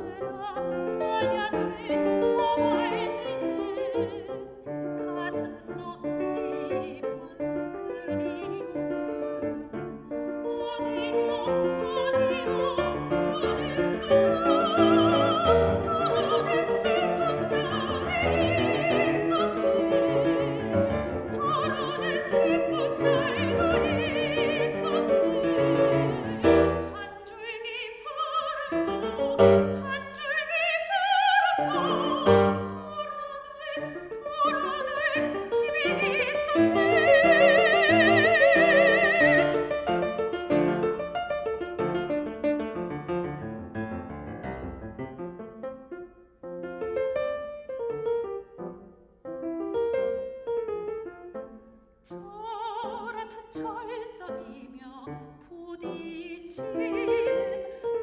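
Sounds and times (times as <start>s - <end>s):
soprano singing with vibrato: 0.0s - 41.4s, 49.5s - 58.0s
piano accompaniment: 0.0s - 58.0s.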